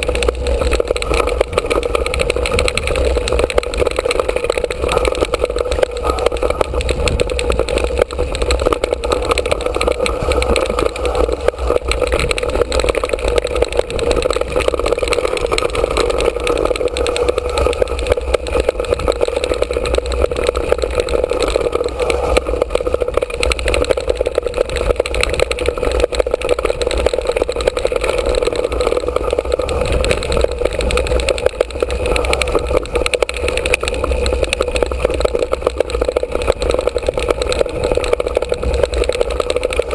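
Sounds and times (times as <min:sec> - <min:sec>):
bike rattling and knocking: 0:00.0 - 0:39.9.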